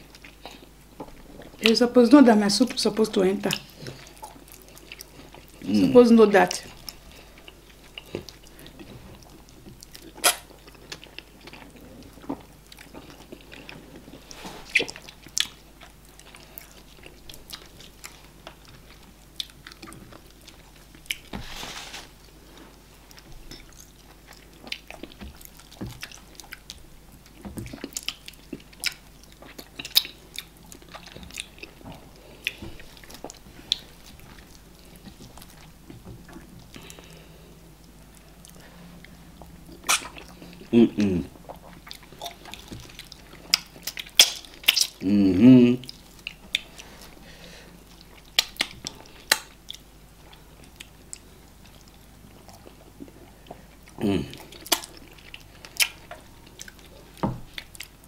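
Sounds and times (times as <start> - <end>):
people chewing with wet smacks: 0.0 - 1.9, 3.4 - 21.4, 22.2 - 58.0.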